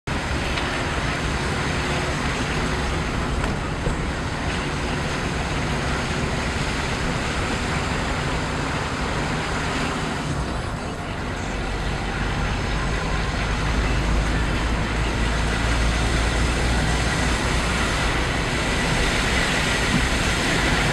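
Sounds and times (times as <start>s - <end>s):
tyre road noise: 0.0s - 20.9s
car engine from inside cabin: 0.1s - 20.9s.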